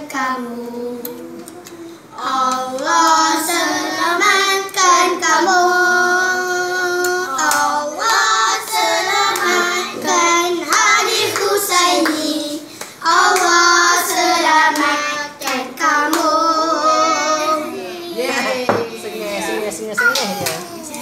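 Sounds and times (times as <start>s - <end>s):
children and women singing: 0.0s - 21.0s.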